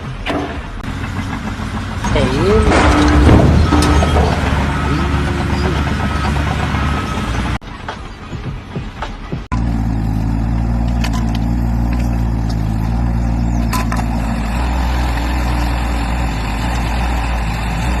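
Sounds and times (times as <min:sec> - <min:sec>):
heavy engine running: 0:00.0 - 0:18.0.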